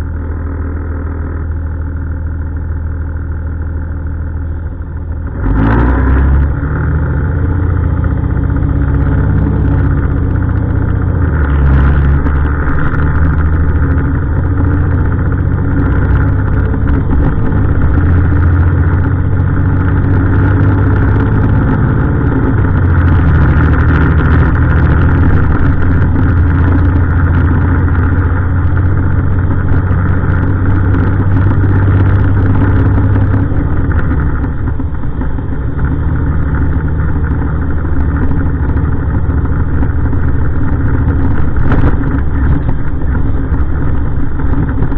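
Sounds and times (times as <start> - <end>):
diesel truck engine revving: 5.0 - 44.9.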